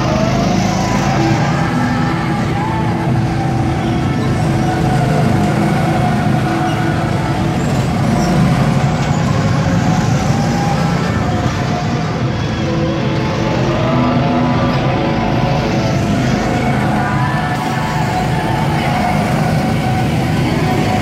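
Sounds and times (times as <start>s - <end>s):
go-kart engines: 0.0s - 21.0s.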